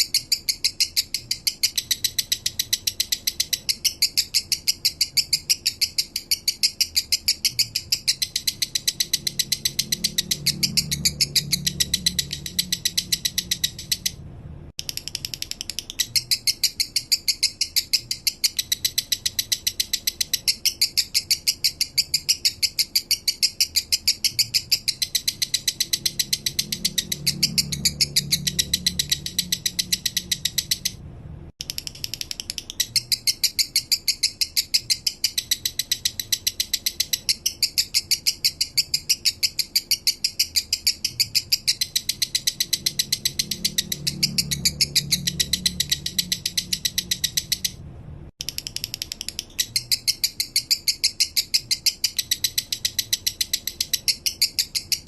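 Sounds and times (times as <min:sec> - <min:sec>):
lovebird chirping: 0:00.0 - 0:14.2, 0:14.8 - 0:31.0, 0:31.6 - 0:47.8, 0:48.4 - 0:55.0.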